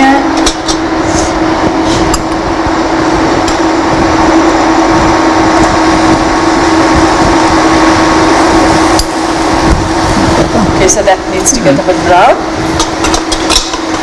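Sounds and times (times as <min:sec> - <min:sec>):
constant low hum: 0:00.0 - 0:14.0
electrical hiss and buzz: 0:00.0 - 0:14.0.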